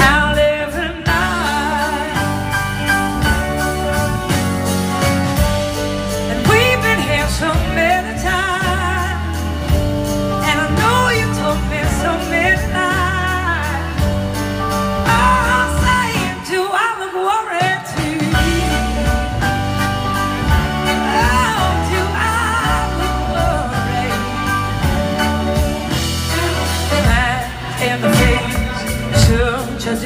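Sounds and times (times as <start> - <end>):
person singing with vibrato: 0.0 - 5.0, 5.8 - 30.0
live blues-rock band: 0.0 - 30.0.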